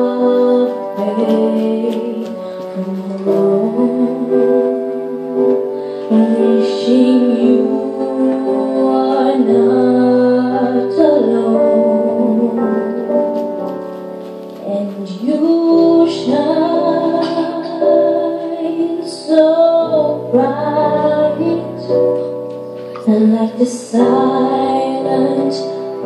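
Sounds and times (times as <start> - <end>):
girl singing a ballad: 0.0 - 26.0
piano accompaniment: 0.0 - 26.0.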